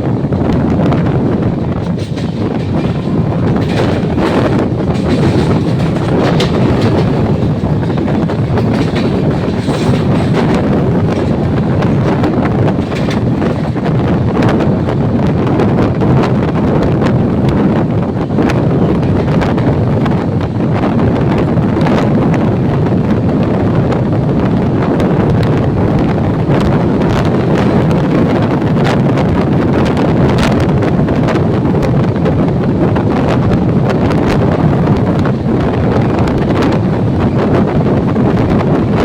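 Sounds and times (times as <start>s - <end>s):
train rumbling past: 0.0s - 39.0s
wheels clacking on rails: 0.0s - 39.0s
wind buffeting microphone: 0.0s - 39.0s.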